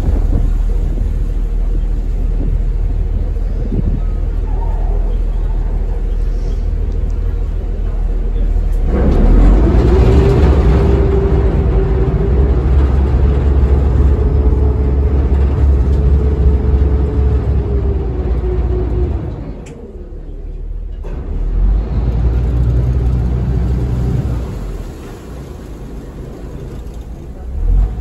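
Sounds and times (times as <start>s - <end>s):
ferry engine running with whine: 0.0s - 28.0s.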